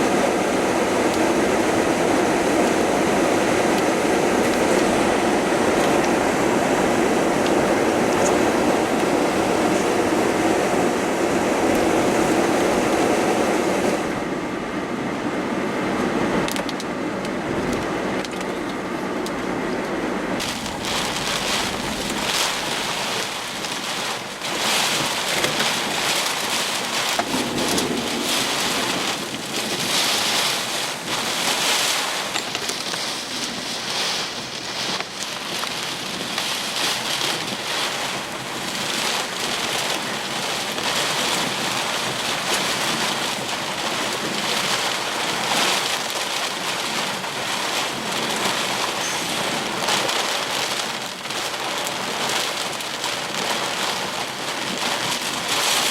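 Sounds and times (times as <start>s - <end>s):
storm wind and rain rushing: 0.0s - 55.9s.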